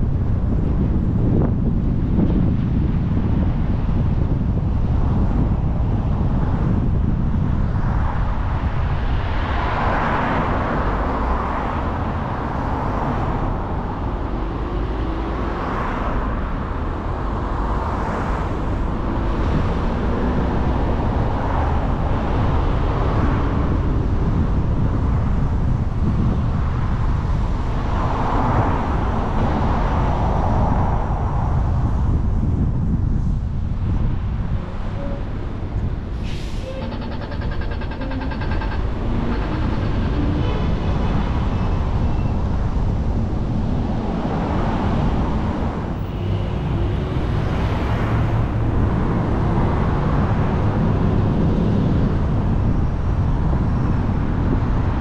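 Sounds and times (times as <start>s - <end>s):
traffic noise: 0.0s - 55.0s
tyre and road noise: 0.0s - 55.0s
wind rumble on microphone: 0.0s - 55.0s.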